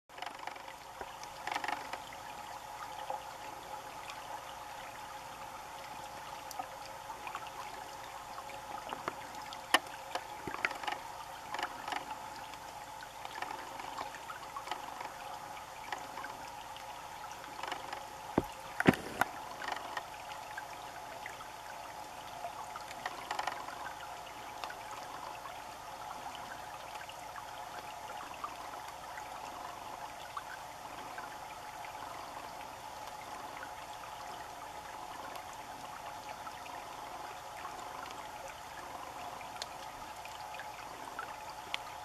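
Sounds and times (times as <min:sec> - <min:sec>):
creek water running: 0:00.1 - 0:42.0
sharp ticks and small splashes: 0:00.1 - 0:42.0.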